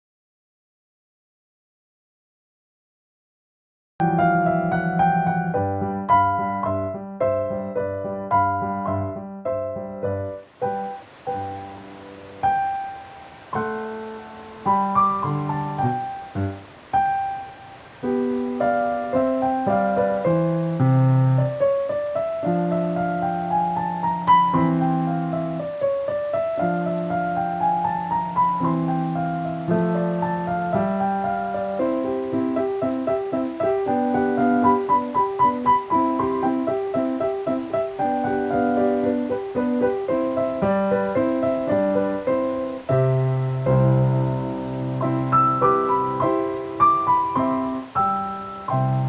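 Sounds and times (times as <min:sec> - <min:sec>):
piano music: 0:04.0 - 0:49.0.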